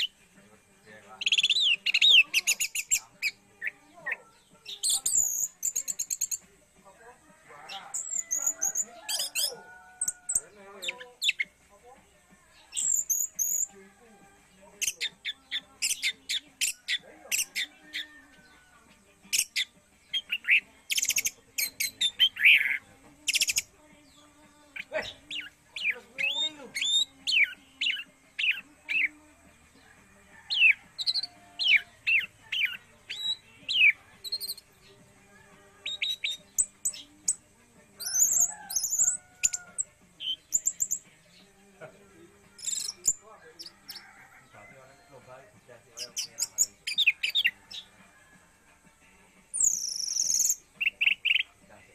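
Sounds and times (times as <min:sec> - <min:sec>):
thrush singing: 0:00.0 - 0:51.9.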